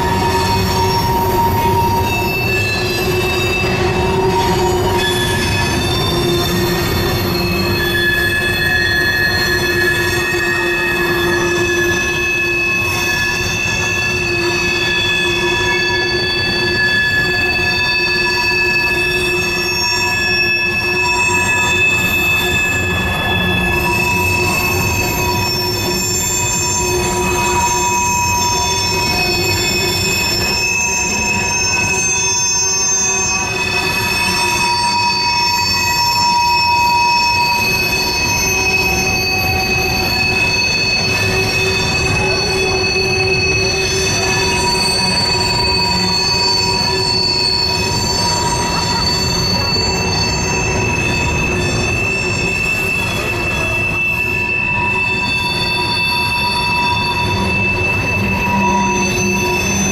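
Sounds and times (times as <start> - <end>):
high-pitched wheel squeals: 0.0 - 59.9
train wheels rumbling: 0.0 - 59.9.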